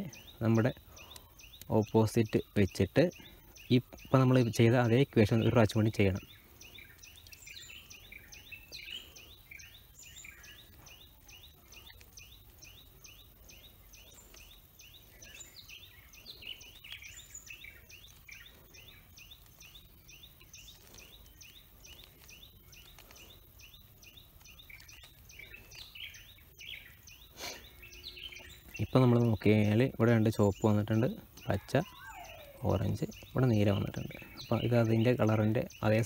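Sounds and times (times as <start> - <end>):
rapid bird chirps: 0.0 - 36.0.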